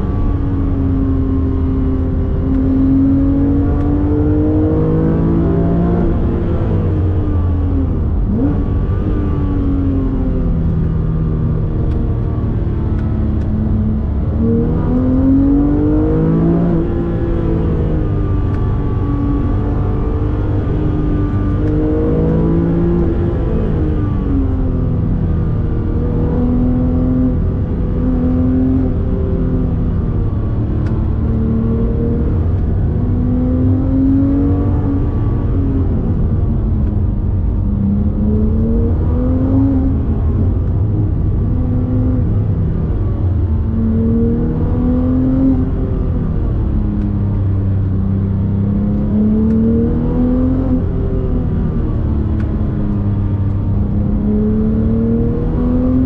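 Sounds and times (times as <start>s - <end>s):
car engine revving: 0.0s - 56.0s
low road rumble: 0.0s - 56.0s.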